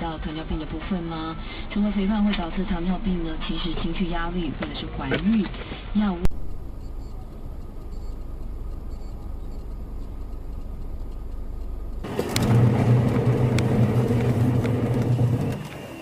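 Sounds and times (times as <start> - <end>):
low engine drone: 0.0 - 16.0
road rumble: 0.0 - 16.0.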